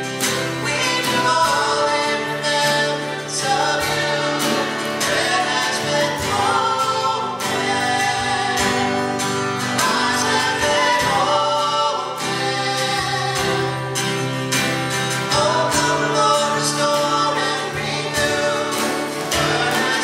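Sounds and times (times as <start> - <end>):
acoustic guitar strumming: 0.0 - 20.0
woman and man singing: 0.5 - 14.3, 15.0 - 20.0.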